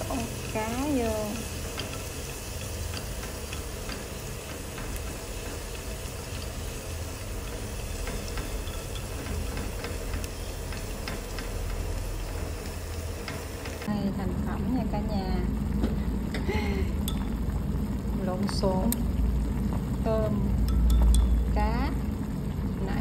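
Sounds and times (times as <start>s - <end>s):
garlic sizzling in hot oil: 0.0s - 23.0s
low steady rumble: 0.0s - 23.0s.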